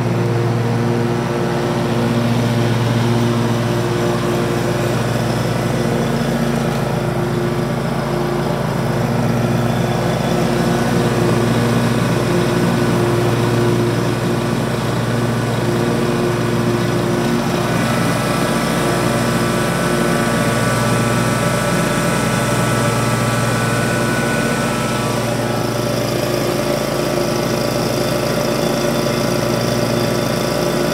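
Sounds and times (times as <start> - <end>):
riding mower engine running: 0.0 - 30.9.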